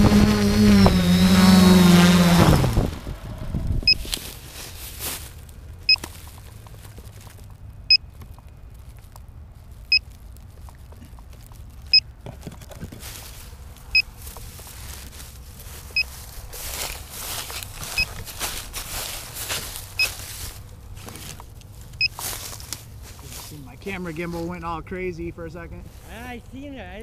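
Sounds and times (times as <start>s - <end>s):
faint wind rumble: 0.0s - 27.0s
grass rustling: 0.0s - 27.0s.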